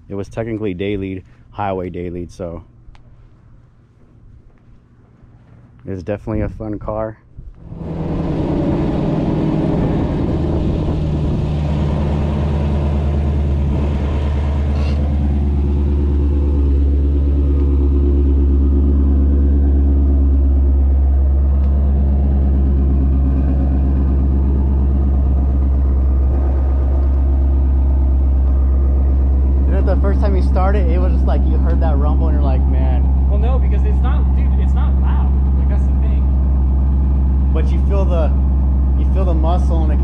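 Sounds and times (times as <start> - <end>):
car engine idling: 7.6 - 40.0.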